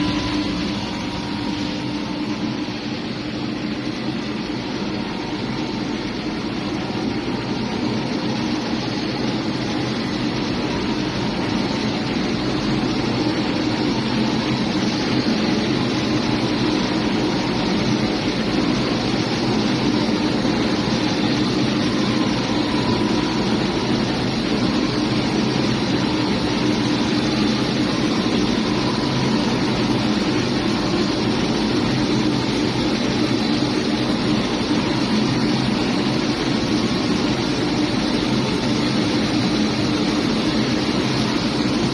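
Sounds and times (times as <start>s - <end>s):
pipe threading machine running: 0.0s - 41.9s.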